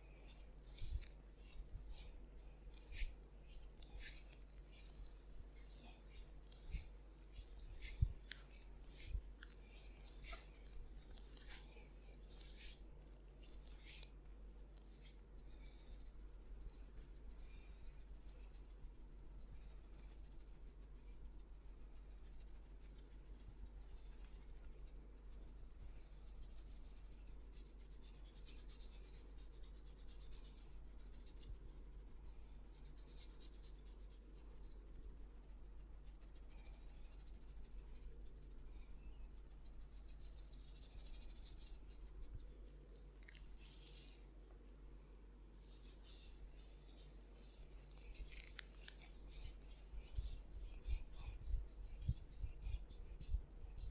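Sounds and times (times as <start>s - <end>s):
hands rubbing skin and hair: 0.0s - 53.9s.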